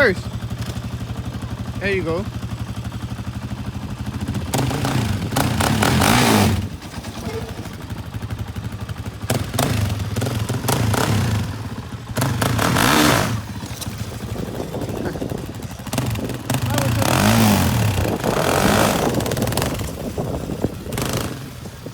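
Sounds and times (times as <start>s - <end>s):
atv engine revving: 0.0s - 21.9s.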